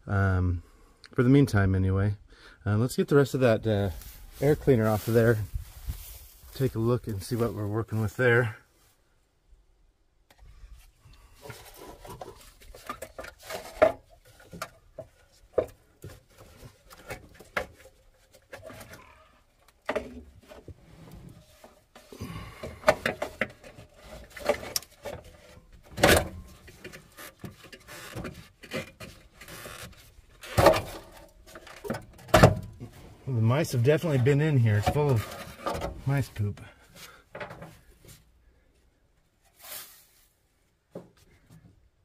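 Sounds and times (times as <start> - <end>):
rustling of parts: 3.7 - 8.2, 10.4 - 33.2, 33.8 - 42.0.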